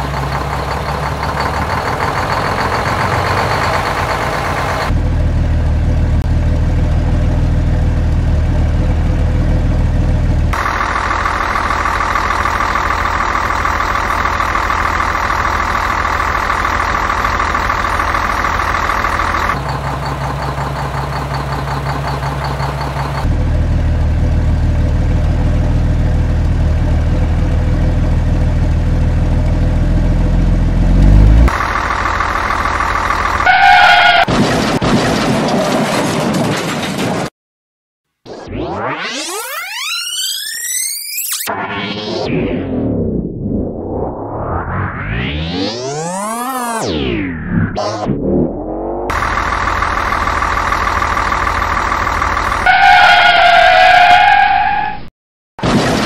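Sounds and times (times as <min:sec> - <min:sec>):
truck engine running: 0:00.0 - 0:37.3, 0:43.6 - 0:54.8.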